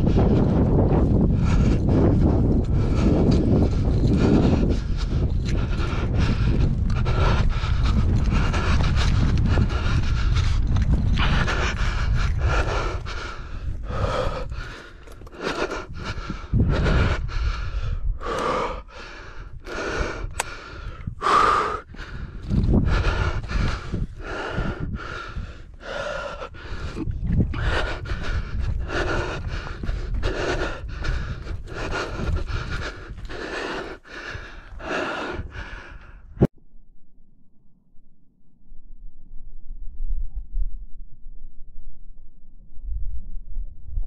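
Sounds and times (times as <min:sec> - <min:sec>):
person breathing hard: 0:00.0 - 0:36.5
low rumble on microphone: 0:00.0 - 0:44.0.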